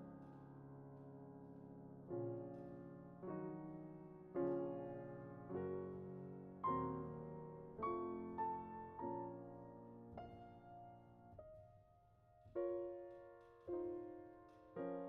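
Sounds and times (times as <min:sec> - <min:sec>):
grand piano chords: 0:00.0 - 0:15.0.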